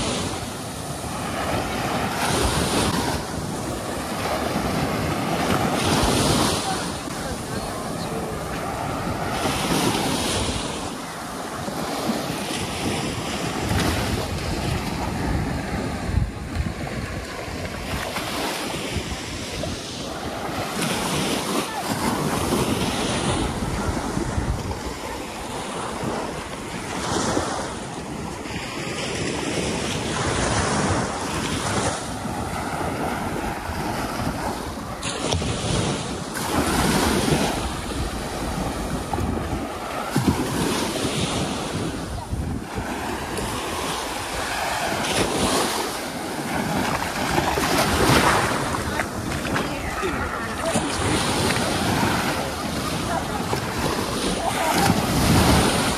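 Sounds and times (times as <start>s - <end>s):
sea waves breaking on shore: 0.0s - 55.9s
wind buffeting microphone: 0.0s - 55.9s.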